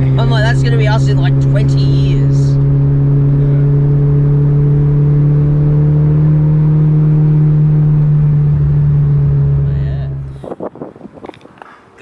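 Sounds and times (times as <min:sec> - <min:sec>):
car engine droning at cruise: 0:00.0 - 0:12.0.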